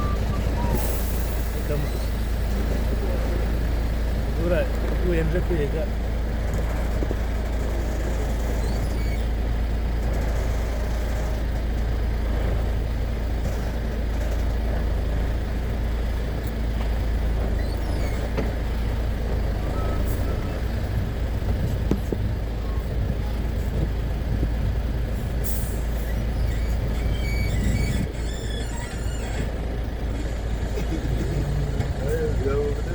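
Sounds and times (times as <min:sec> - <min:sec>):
road noise: 0:00.0 - 0:32.9
truck engine rumbling: 0:00.0 - 0:32.9.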